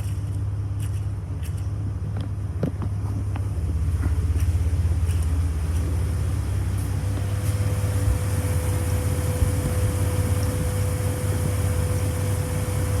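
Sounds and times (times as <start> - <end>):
car engine idling: 0.0 - 13.0
steady belt whine: 0.0 - 13.0.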